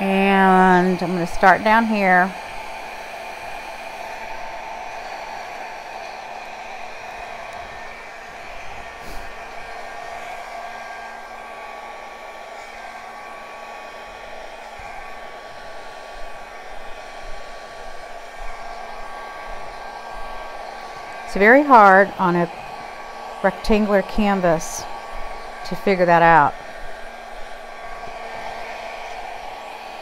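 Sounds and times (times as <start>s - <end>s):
blow dryer running: 0.0s - 30.0s.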